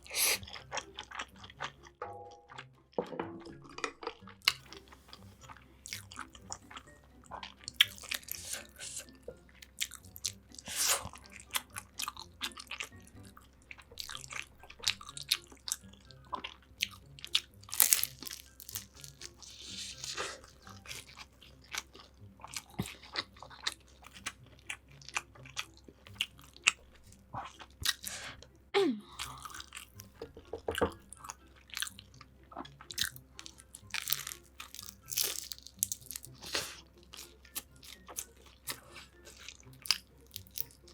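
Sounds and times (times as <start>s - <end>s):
crunching fried food: 0.0s - 1.9s, 3.8s - 28.4s, 29.2s - 40.9s.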